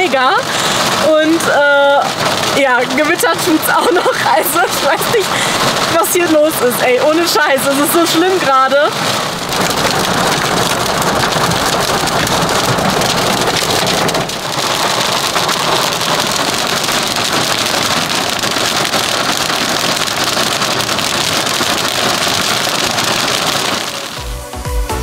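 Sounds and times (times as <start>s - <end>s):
rain and hail drumming on car roof: 0.0s - 25.0s.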